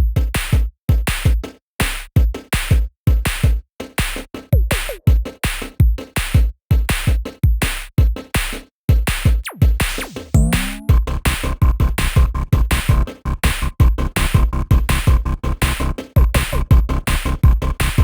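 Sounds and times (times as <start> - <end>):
electronic music with drum-machine beat: 0.0 - 18.0.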